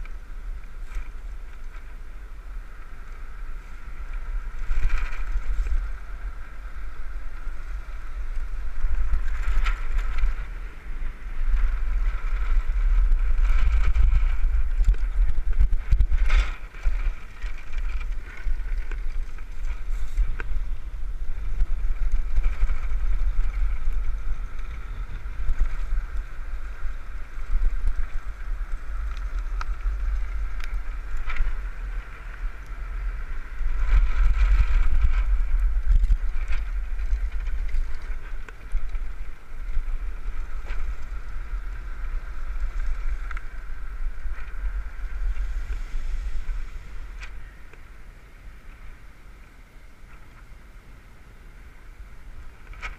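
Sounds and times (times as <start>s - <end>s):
cart wheels whirring: 0.0s - 52.9s
wind buffeting microphone: 0.0s - 52.9s.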